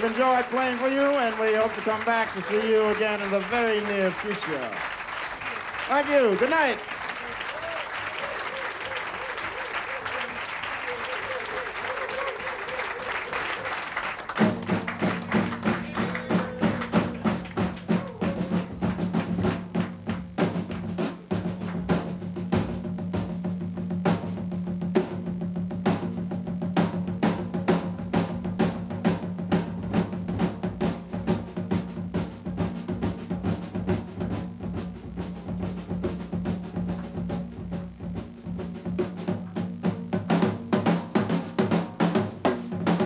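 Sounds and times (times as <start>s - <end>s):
drum kit played with sticks: 0.0s - 43.0s.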